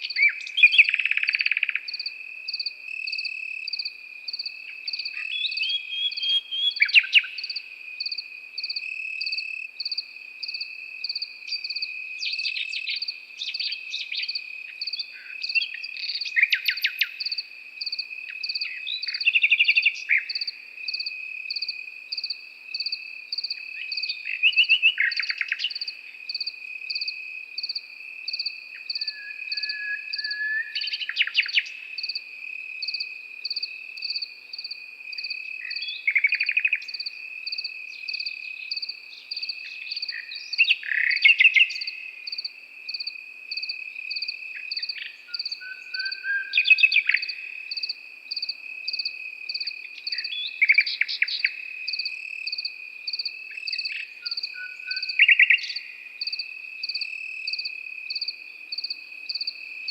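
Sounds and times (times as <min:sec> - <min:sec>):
cricket chirping: 0:00.0 - 0:59.9
crickets trilling: 0:00.0 - 0:59.9
nightingale singing: 0:00.0 - 0:59.9.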